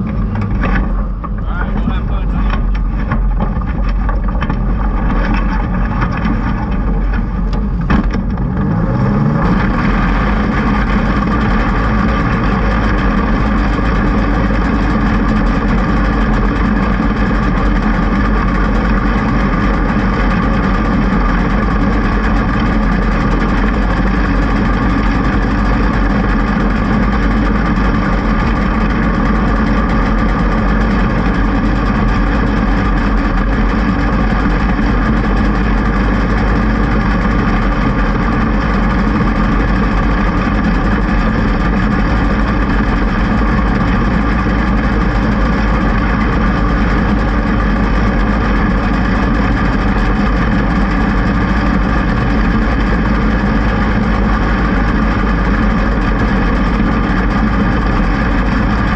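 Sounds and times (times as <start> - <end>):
racing car engine at high revs: 0.0 - 58.9.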